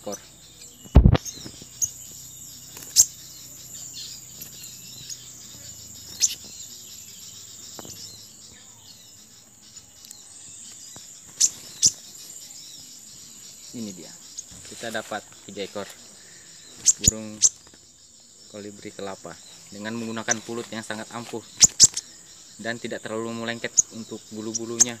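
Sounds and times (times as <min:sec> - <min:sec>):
crickets droning: 0:00.0 - 0:25.0.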